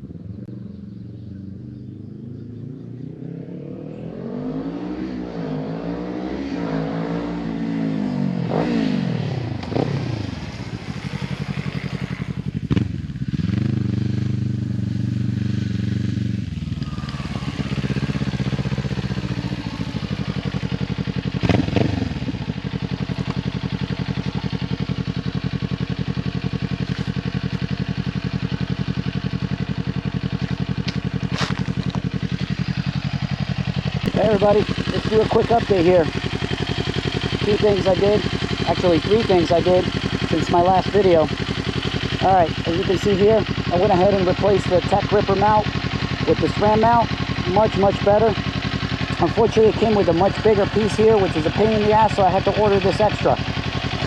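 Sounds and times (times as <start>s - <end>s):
motorcycle engine revving and idling: 0.0s - 54.0s.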